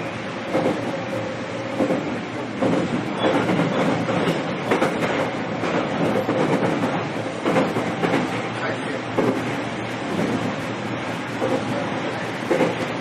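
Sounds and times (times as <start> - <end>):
train wheels rumbling on rail: 0.0 - 13.0
track clacks and knocks: 0.4 - 13.0.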